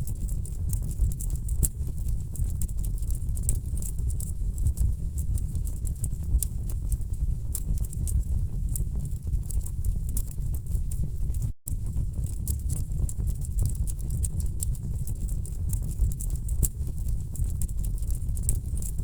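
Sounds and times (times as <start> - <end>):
rumble of burning logs: 0.0 - 19.0.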